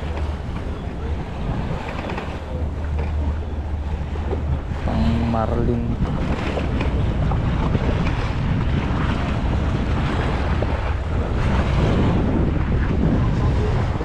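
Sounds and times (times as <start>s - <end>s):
low boat engine hum: 0.0s - 14.0s
water washing against boat hull: 0.0s - 14.0s
wind buffeting microphone: 0.0s - 14.0s.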